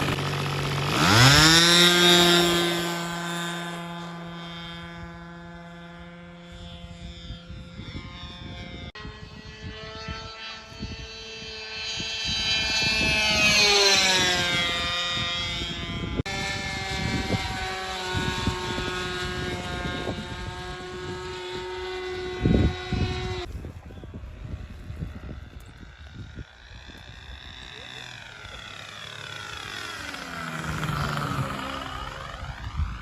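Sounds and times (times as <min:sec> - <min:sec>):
model airplane motor whine: 0:00.0 - 0:33.0.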